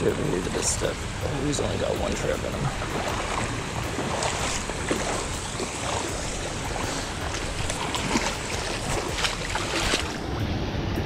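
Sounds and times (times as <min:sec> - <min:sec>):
creek water rushing: 0:00.0 - 0:11.0
water splashes: 0:00.0 - 0:11.0.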